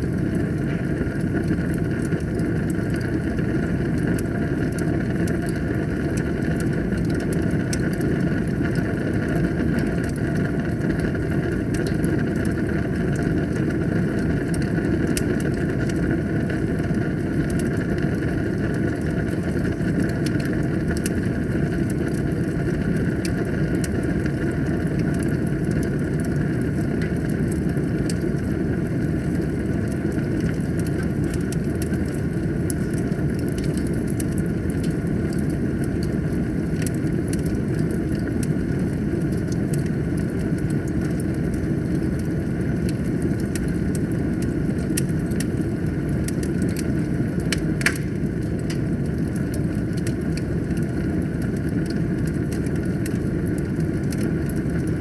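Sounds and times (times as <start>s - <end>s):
fire roaring: 0.0s - 55.0s
logs crackling and popping: 0.0s - 55.0s.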